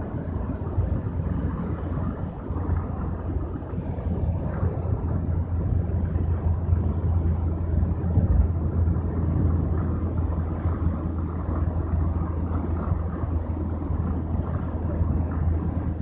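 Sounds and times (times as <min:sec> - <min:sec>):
vehicle engine and tyre rumble: 0:00.0 - 0:16.0.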